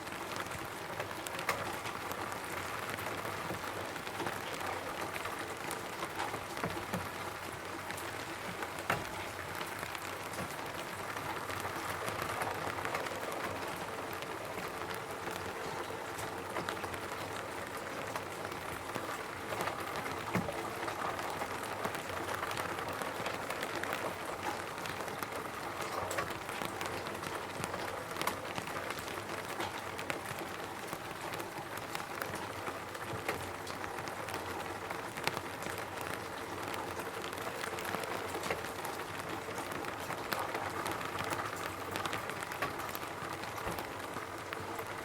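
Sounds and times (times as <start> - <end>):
rain on a roof: 0.0 - 45.0.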